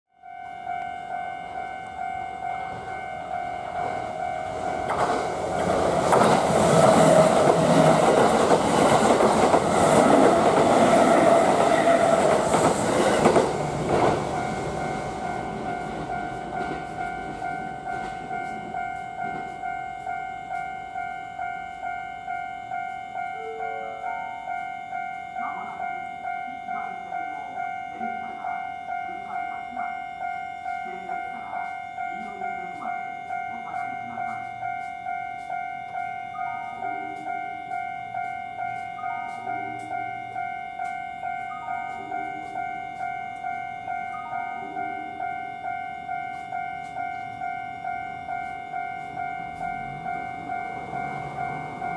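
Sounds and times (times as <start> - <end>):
railroad crossing bell ringing: 0.1 - 51.9
train rumble and wheel clatter: 1.6 - 51.9.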